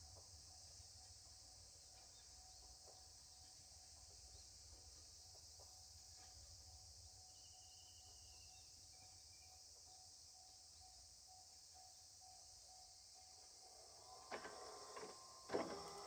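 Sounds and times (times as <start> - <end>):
insect chirring: 0.5 - 16.0.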